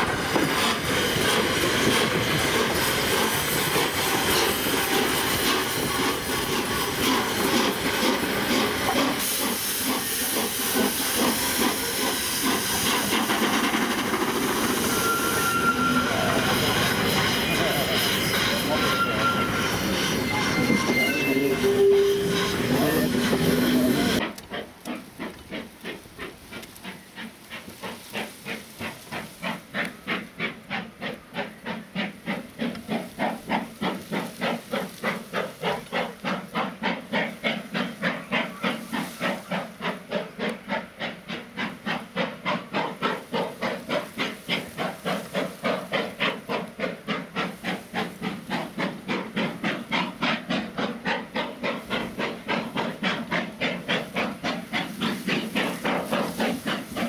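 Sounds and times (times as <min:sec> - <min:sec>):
steam locomotive chuffing: 0:00.0 - 0:57.0.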